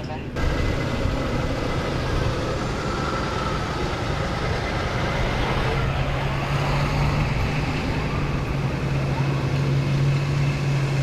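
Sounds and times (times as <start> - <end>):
street traffic noise: 0.0 - 11.0
vehicle engine running: 0.4 - 11.0.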